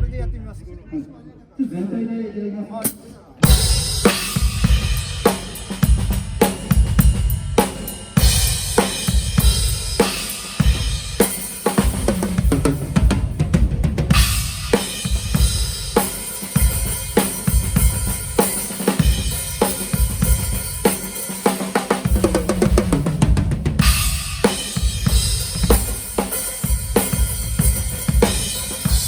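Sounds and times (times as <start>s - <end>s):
drum kit playing a groove: 3.4s - 29.0s.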